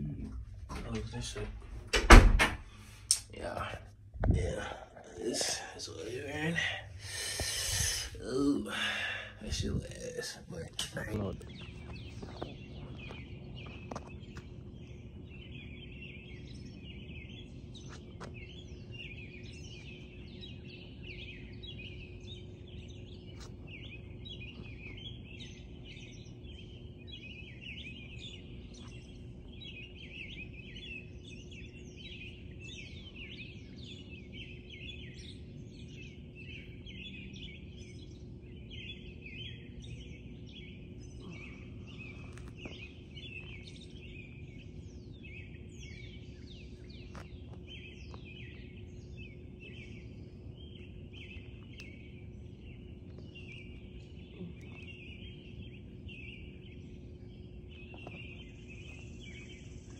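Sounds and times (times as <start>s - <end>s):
birds chirping and singing: 0.0s - 59.9s
steady low hum: 0.0s - 59.9s.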